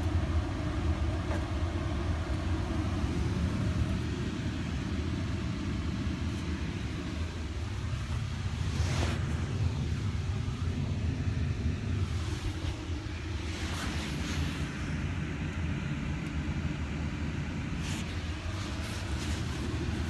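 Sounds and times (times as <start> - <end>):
car engine rumble in cabin: 0.0 - 20.0.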